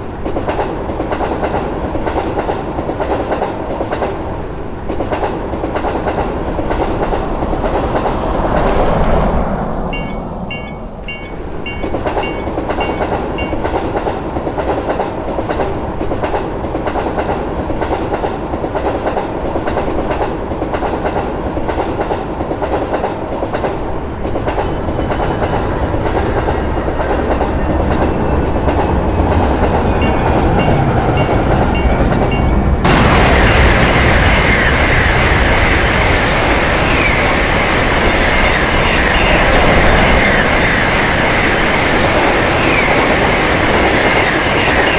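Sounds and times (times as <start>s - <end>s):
electric trains passing: 0.0s - 44.9s
wheels clacking over rail joints: 0.0s - 44.9s.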